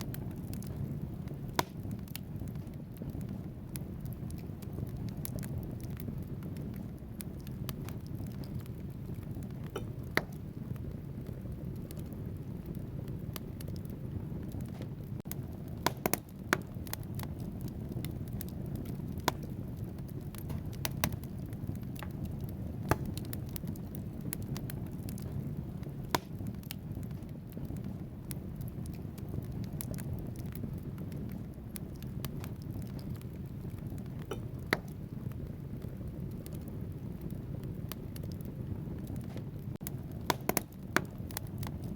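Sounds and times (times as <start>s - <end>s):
fire rumbling: 0.0s - 41.9s
logs crackling and popping: 0.0s - 41.9s.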